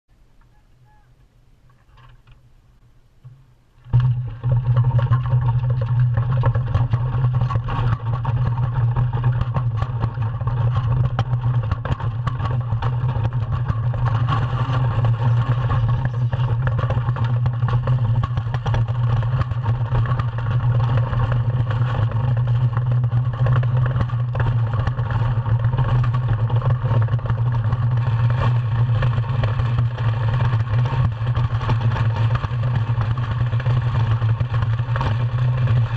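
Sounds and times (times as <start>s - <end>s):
runners rumbling over ice: 3.8s - 35.9s.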